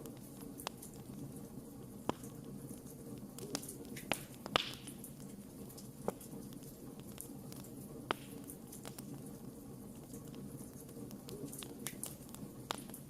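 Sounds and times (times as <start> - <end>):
fire crackling and popping: 0.0 - 13.0
flames rushing: 0.0 - 13.0.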